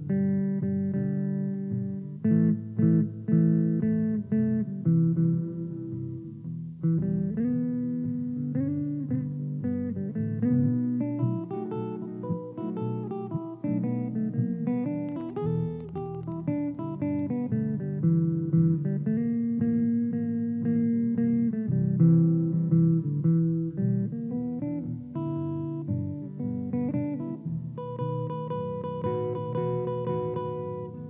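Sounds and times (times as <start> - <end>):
electric guitar blues line: 0.0 - 31.0
looped guitar backing: 0.0 - 31.0.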